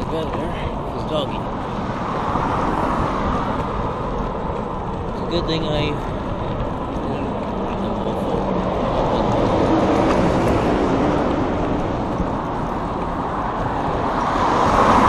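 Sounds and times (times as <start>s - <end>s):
bicycle road noise: 0.0s - 15.0s
rushing wind: 0.0s - 15.0s.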